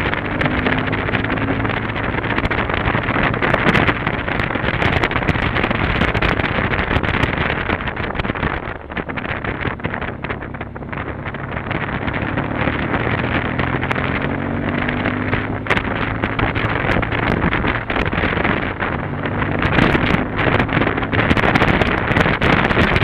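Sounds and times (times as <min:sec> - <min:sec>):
motorcycle engine running: 0:00.0 - 0:23.0
wind buffeting microphone: 0:00.0 - 0:23.0.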